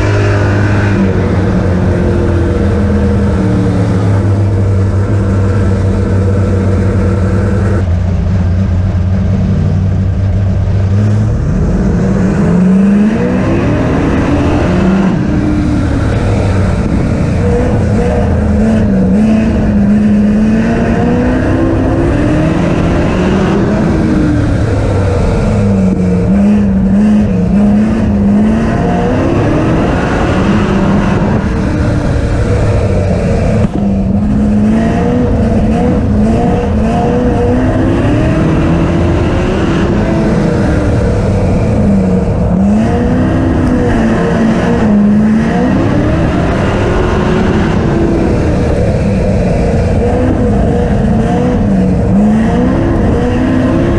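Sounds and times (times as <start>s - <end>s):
stock car engines racing: 0.0s - 53.9s.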